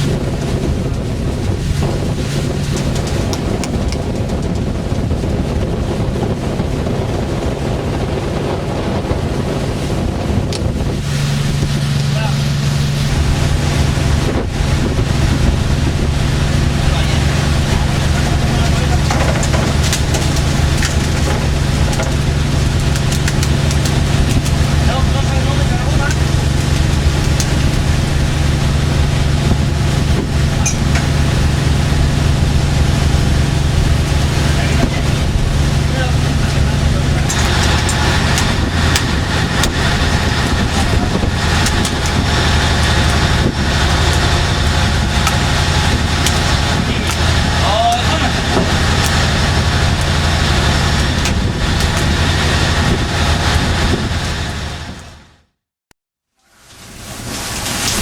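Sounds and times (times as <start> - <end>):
sea wash: 0.0 - 55.4, 56.5 - 58.0
wind buffeting microphone: 0.0 - 55.4
boat engine drone: 0.0 - 55.5.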